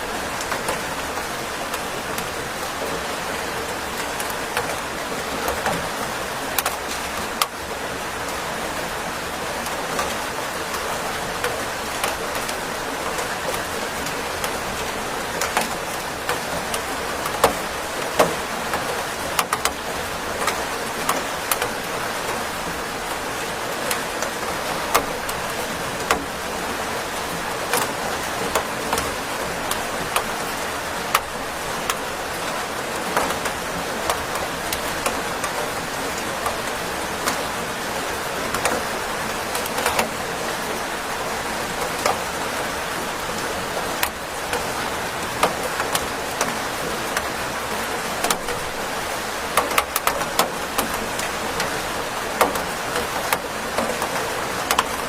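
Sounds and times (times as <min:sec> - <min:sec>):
steady rain hiss: 0:00.0 - 0:55.0
raindrops tapping hard surface: 0:00.2 - 0:07.6, 0:09.4 - 0:55.0.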